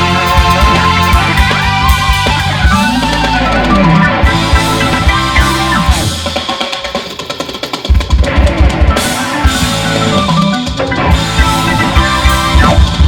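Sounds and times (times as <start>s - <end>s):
bass guitar: 0.0s - 6.6s, 7.9s - 13.0s
electric guitar: 0.0s - 13.0s
rapid kick drum beats: 0.0s - 13.0s.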